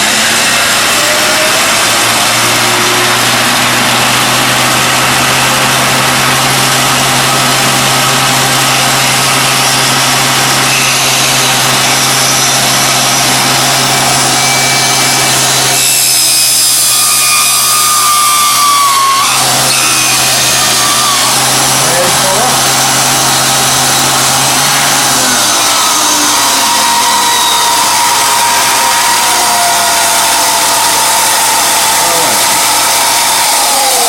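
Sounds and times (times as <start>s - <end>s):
drill press motor hum: 0.0s - 34.0s
high-pitched whine: 0.0s - 34.0s
hole saw cutting: 0.0s - 34.0s.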